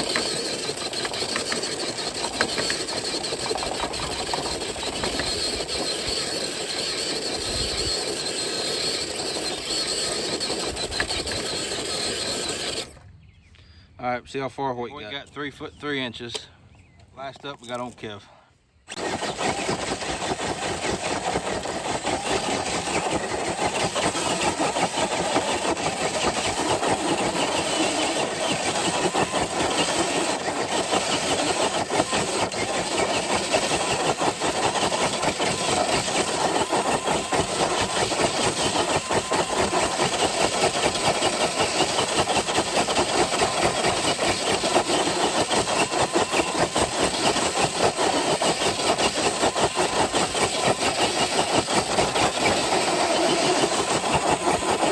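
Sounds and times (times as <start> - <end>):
fast rattle: 0.0 - 12.9, 18.9 - 54.9
toy truck motor whirring: 0.0 - 13.0, 18.9 - 54.9.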